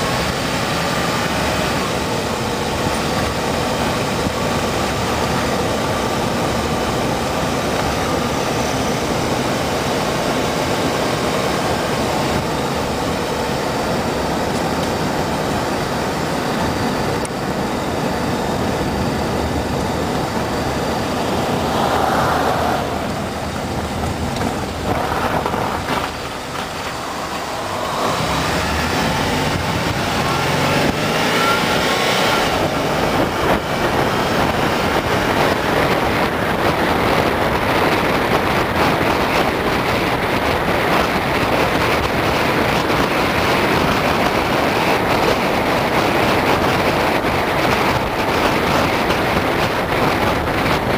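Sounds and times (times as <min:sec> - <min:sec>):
car engine: 0:00.0 - 0:50.9
tyre road noise: 0:00.0 - 0:50.9.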